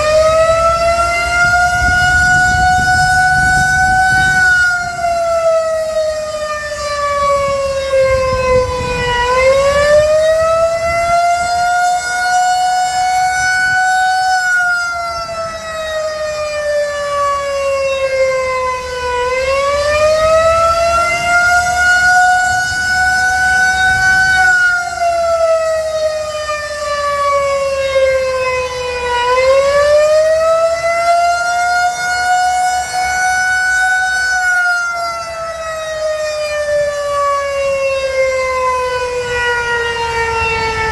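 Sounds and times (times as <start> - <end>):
low traffic rumble: 0.0 - 40.9
rotating warning siren: 0.0 - 40.9.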